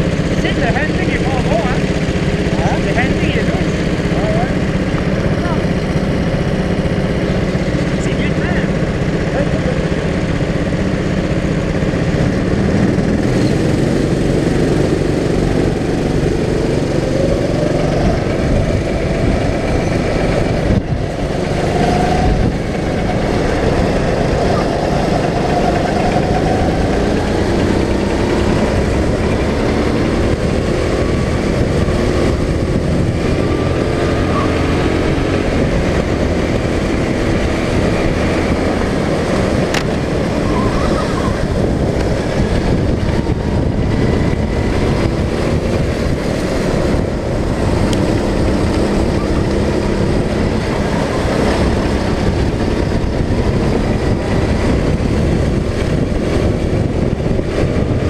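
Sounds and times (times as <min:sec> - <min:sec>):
go-kart engine running: 0:00.0 - 0:58.0
other karts passing: 0:00.0 - 0:58.0
wind and road noise: 0:00.0 - 0:58.0.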